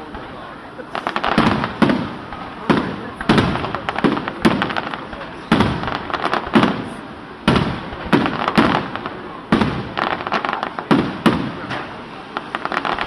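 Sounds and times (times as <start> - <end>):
crackling of firework stars: 0.0 - 13.0
firework shells booming: 0.0 - 13.0.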